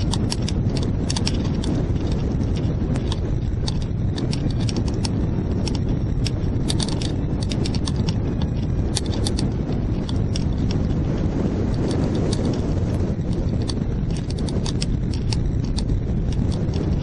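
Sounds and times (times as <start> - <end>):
sharp clicks and rattles: 0.0 - 17.0
wind buffeting microphone: 0.0 - 17.0.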